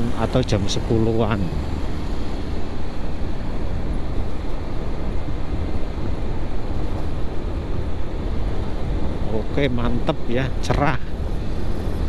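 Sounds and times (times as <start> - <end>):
motorcycle engine and road rumble: 0.0 - 12.0
wind rush on microphone: 0.0 - 12.0.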